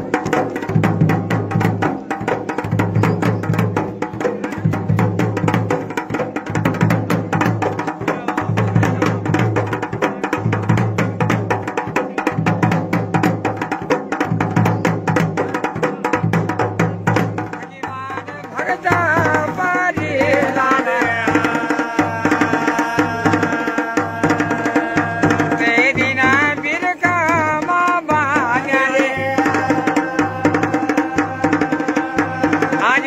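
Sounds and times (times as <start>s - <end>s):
folk drums playing fast rhythm: 0.0s - 33.0s.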